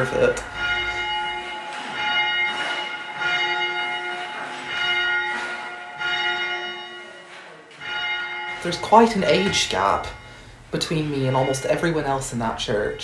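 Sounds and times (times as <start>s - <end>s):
church bells ringing: 0.0s - 12.5s.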